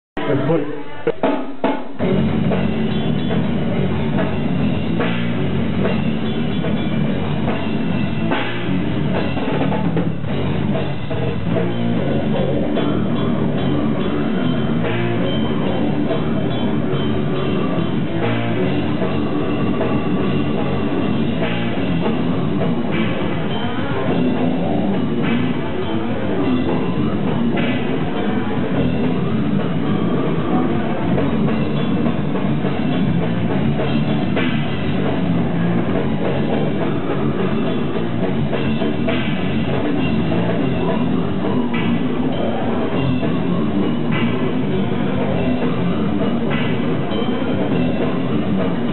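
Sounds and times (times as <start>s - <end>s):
distorted electric guitars: 0.0s - 48.9s
fast drum kit: 0.2s - 48.9s.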